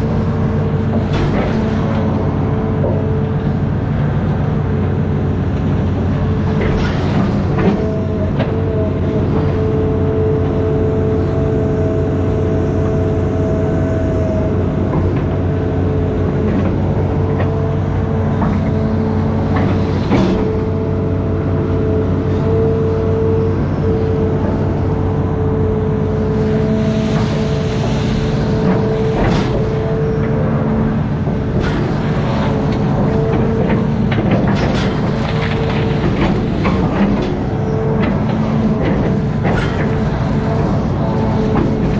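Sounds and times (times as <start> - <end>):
excavator engine whining: 0.0 - 41.9.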